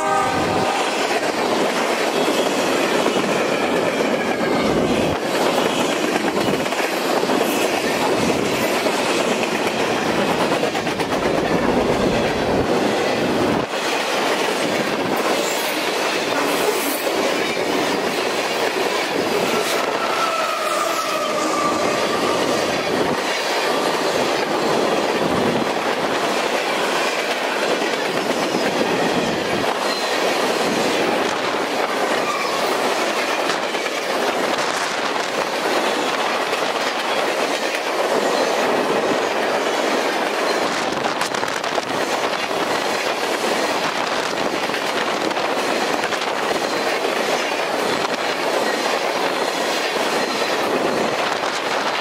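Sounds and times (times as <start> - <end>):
freight train rolling past: 0.0 - 52.0.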